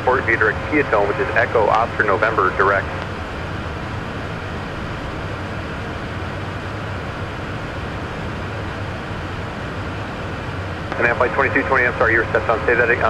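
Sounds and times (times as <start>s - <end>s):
jet cabin airflow rush: 0.0s - 13.0s
low engine hum: 0.0s - 13.0s.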